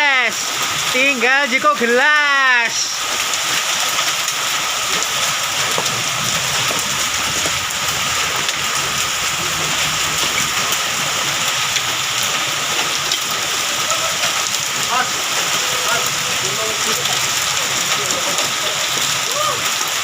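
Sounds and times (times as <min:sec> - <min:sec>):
heavy rain and hail: 0:00.0 - 0:20.0.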